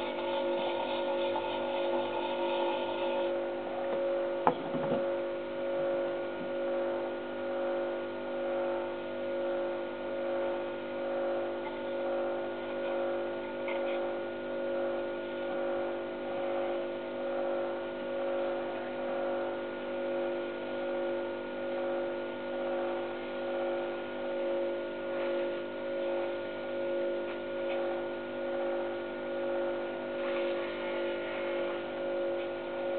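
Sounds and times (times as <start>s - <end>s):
lathe motor hum: 0.0s - 32.9s.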